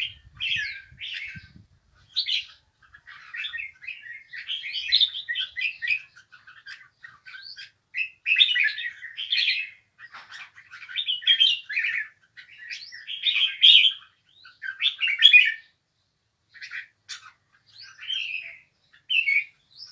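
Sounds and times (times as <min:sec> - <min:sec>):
songbird warbling: 0:00.0 - 0:15.8, 0:16.5 - 0:19.9.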